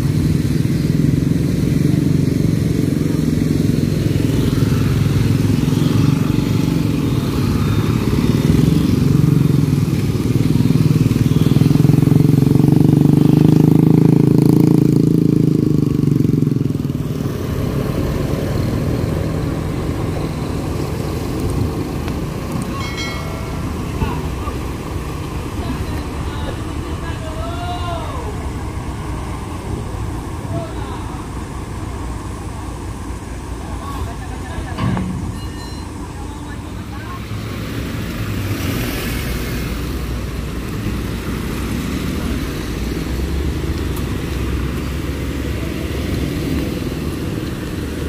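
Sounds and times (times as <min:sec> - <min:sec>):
motorcycles passing close by: 0:00.0 - 0:48.0
vehicle engines in slow traffic: 0:00.0 - 0:48.0.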